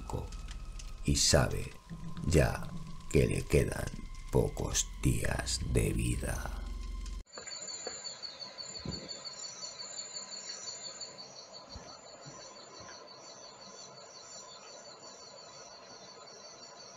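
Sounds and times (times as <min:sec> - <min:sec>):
crickets chirping: 0:00.0 - 0:16.9.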